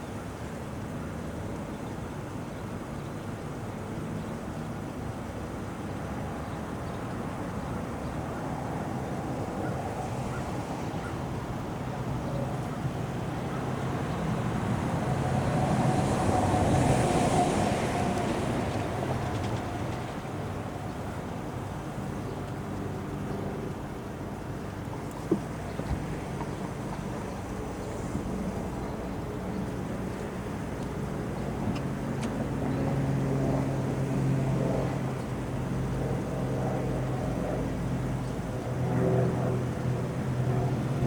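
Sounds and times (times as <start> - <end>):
outdoor background rumble: 6.4 - 41.0.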